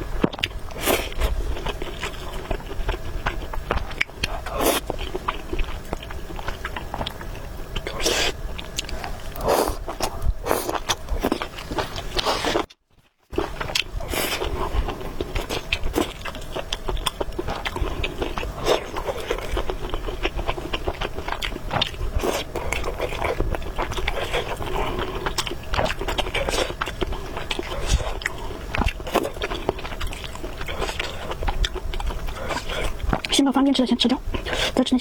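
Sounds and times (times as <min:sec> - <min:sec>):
chewing noodles: 0:00.2 - 0:33.5, 0:34.2 - 0:34.8.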